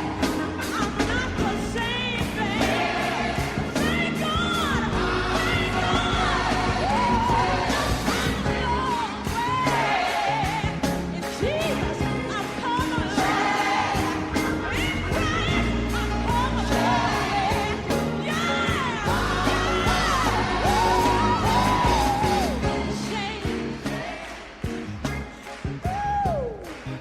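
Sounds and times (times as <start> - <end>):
gospel singing: 0.0 - 26.9
band with drum beat and bass: 0.0 - 27.0.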